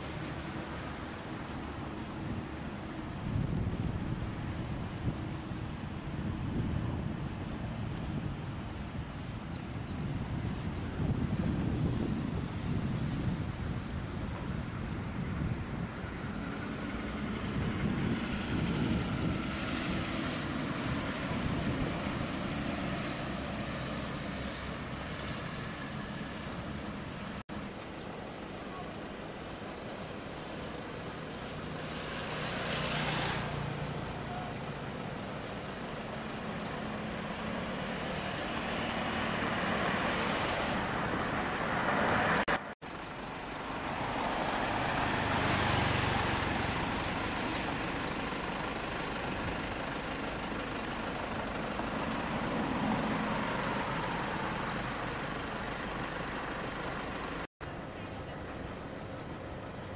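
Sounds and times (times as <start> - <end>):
steady traffic hum: 0.0 - 59.9
vehicles passing close by: 0.0 - 59.9.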